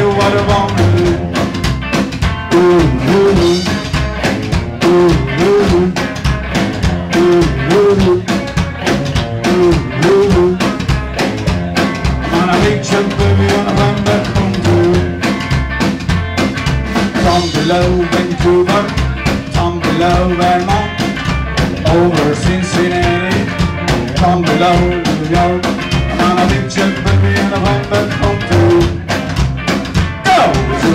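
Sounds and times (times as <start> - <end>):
double bass: 0.0 - 30.9
drum kit beat: 0.0 - 30.9
electric guitar: 0.0 - 30.9
live band playing: 0.0 - 30.9.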